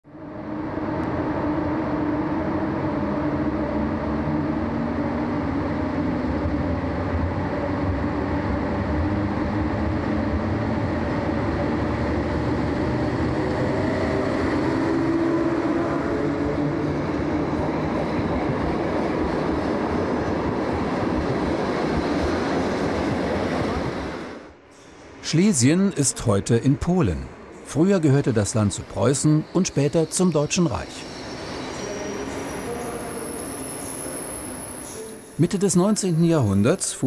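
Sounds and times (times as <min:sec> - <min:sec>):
locomotive hum and rail rumble: 0:00.0 - 0:37.0.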